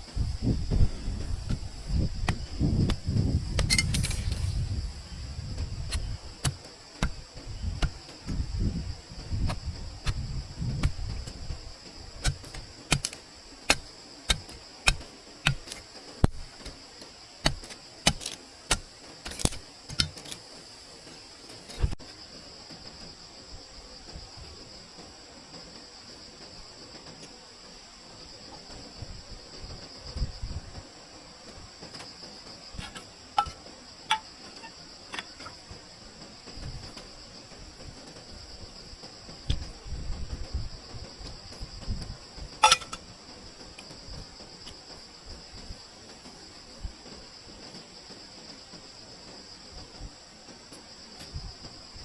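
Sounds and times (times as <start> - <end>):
high insect chorus: 0.0 - 52.0.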